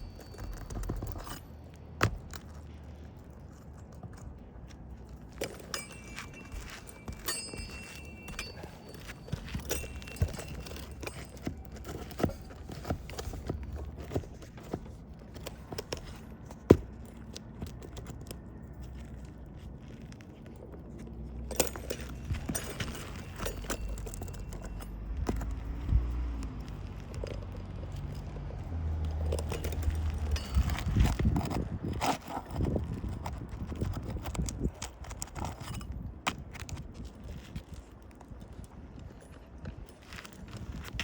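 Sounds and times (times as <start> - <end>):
metal tool scraping under shingles: 0.0 - 26.0, 29.1 - 37.8.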